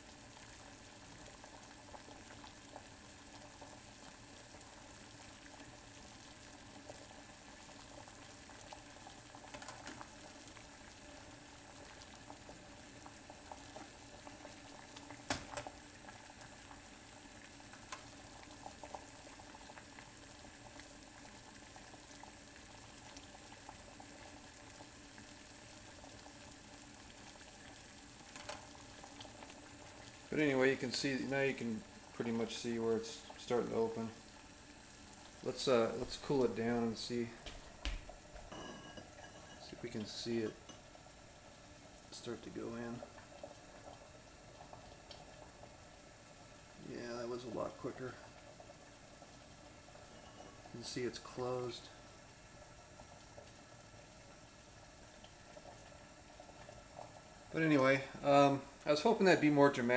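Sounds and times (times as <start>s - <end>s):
water boiling in a saucepan: 0.0s - 59.9s.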